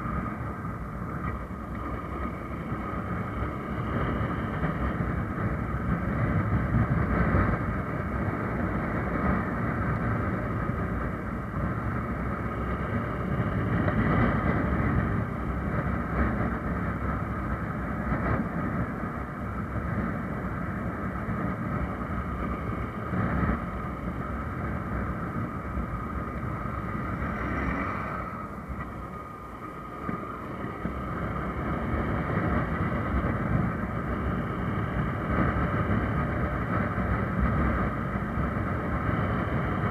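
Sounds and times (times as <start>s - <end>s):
road noise: 0.0s - 39.9s
wind: 0.0s - 39.9s.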